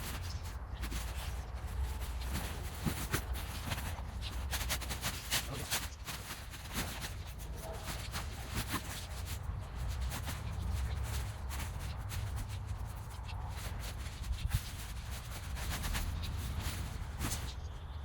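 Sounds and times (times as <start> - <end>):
nylon tent rustling: 0.0 - 17.9
steady low rumble: 0.0 - 18.0.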